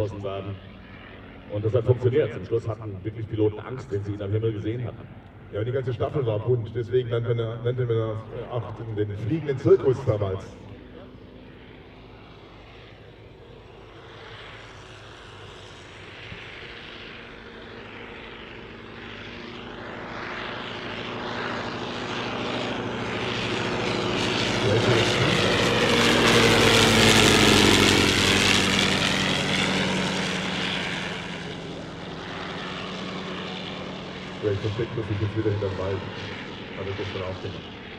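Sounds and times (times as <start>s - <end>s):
rotary aircraft engine flypast: 0.0s - 37.9s.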